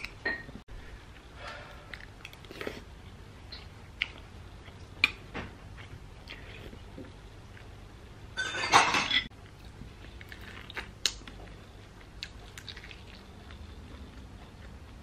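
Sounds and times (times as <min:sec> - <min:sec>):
soft chewing: 0:01.1 - 0:07.8, 0:09.3 - 0:15.0.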